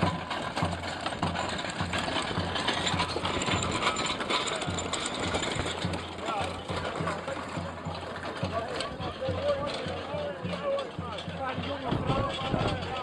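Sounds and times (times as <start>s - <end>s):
marching feet shuffling: 0.0s - 13.0s
wooden wheels rattling over bricks: 0.0s - 13.0s.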